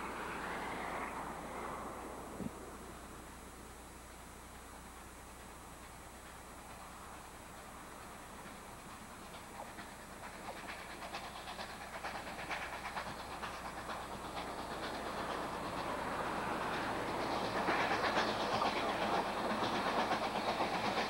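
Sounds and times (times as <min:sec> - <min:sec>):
steam locomotive exhaust beats: 0:00.0 - 0:21.0.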